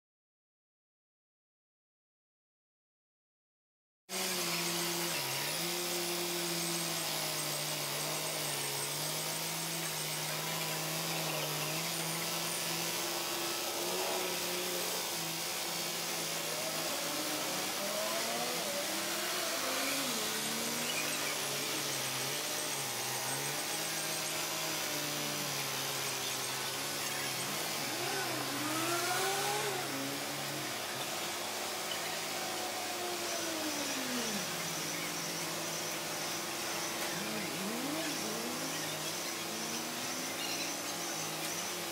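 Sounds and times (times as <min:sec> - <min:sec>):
sped-up engine whine: 0:04.1 - 0:41.9.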